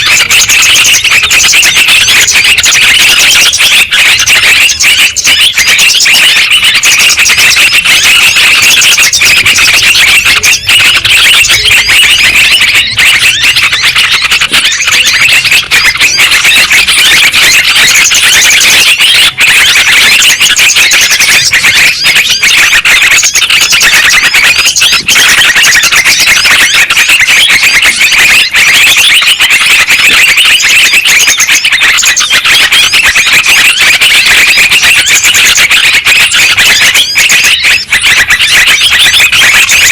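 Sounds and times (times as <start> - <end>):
birds calling and chattering: 0.0 - 39.9.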